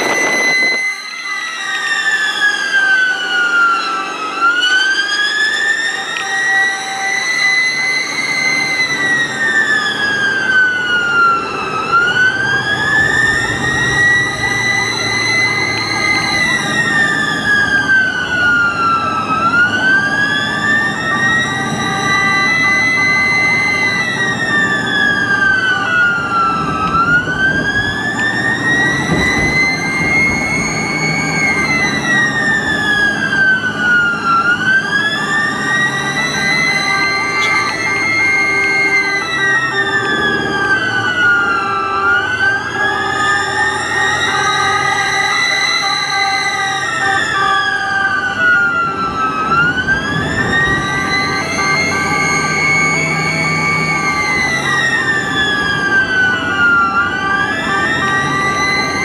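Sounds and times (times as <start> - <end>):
ambulance siren wailing: 0.0 - 59.0
vehicle engine and road noise: 0.0 - 59.0.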